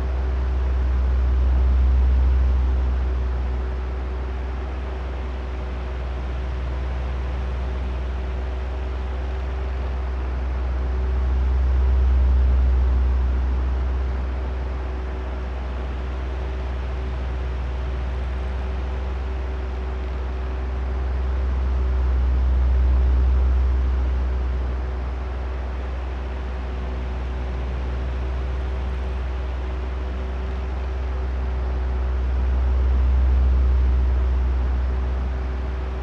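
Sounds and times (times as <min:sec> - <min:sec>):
electric fan airy drone: 0:00.0 - 0:36.0
fan motor hum: 0:00.0 - 0:36.0.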